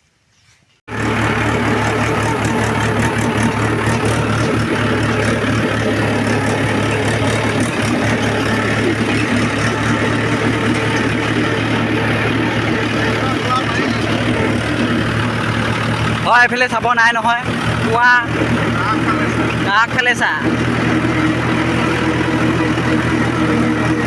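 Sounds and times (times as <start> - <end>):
farm vehicle engine running: 0.9 - 24.0.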